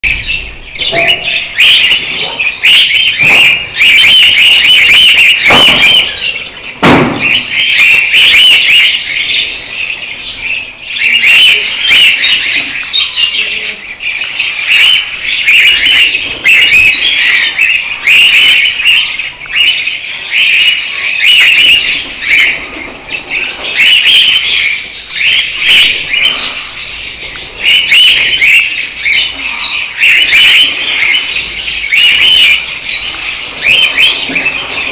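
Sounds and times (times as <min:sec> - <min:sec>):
budgerigars chattering and warbling: 0:00.0 - 0:34.9.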